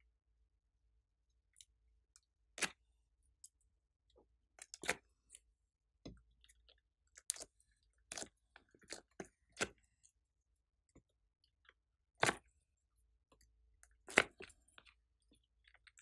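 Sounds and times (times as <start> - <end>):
slime squishes and sticky clicks: 1.5 - 16.0.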